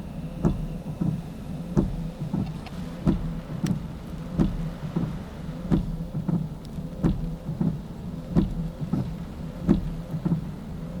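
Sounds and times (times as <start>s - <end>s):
heavy rain hissing: 0.0s - 11.0s
low engine hum: 0.0s - 11.0s
windscreen wipers knocking: 0.2s - 11.0s.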